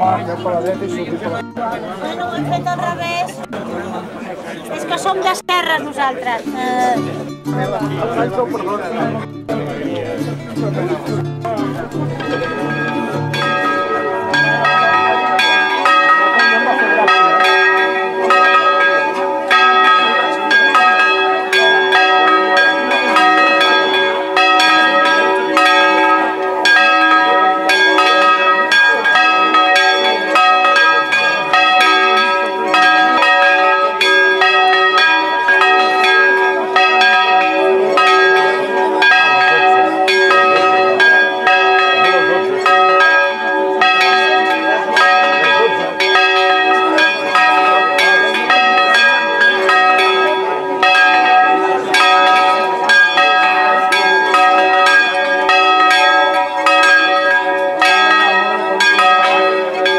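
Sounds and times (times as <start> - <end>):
church bells ringing: 0.0 - 4.0, 5.0 - 59.9.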